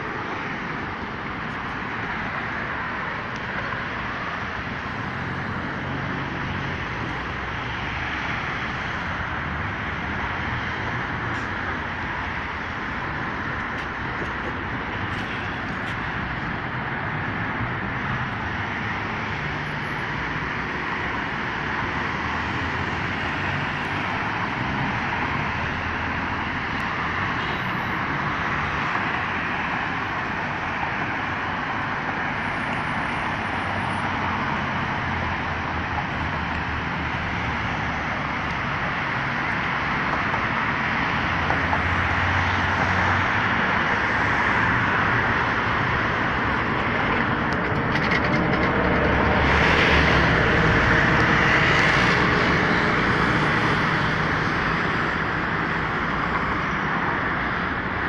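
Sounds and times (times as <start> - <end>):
cars and tyres passing: 0.0 - 58.0.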